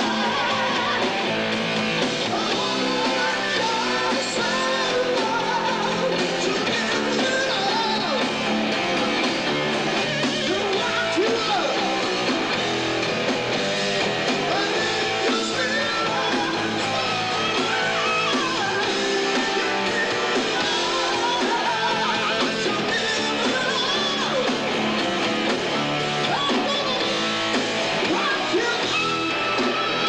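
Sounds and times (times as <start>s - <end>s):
person singing: 0.0s - 1.5s, 2.2s - 8.4s, 10.0s - 12.5s, 13.7s - 24.7s, 26.2s - 27.4s, 28.0s - 30.0s
bass guitar: 0.0s - 30.0s
drums: 0.0s - 30.0s
electric guitars: 0.0s - 30.0s.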